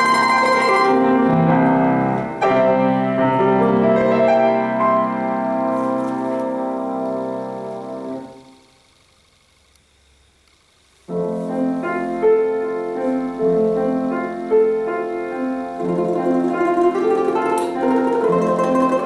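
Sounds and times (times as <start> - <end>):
piano playing chords and melody: 0.0 - 8.4, 11.1 - 19.0.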